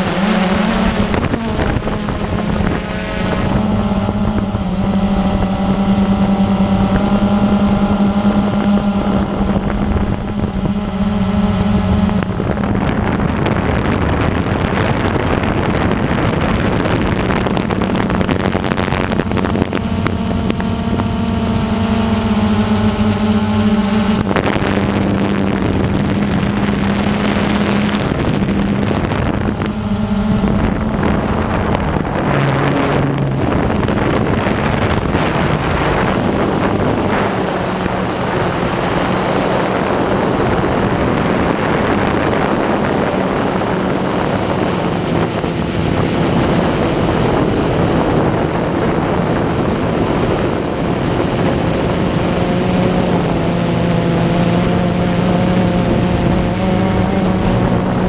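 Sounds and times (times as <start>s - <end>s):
drone propellers whirring: 0.0s - 58.0s
wind buffeting microphone: 0.0s - 58.0s.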